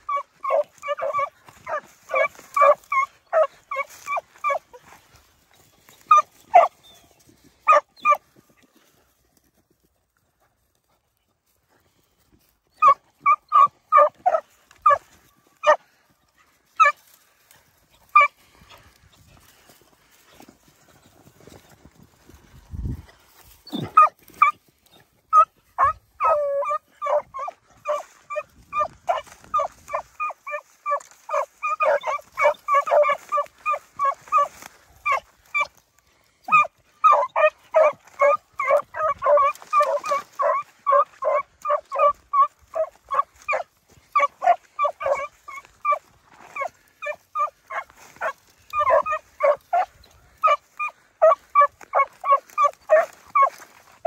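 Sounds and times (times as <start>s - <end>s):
hounds barking: 0.0s - 8.3s, 12.8s - 19.7s, 23.7s - 35.8s, 36.4s - 54.0s.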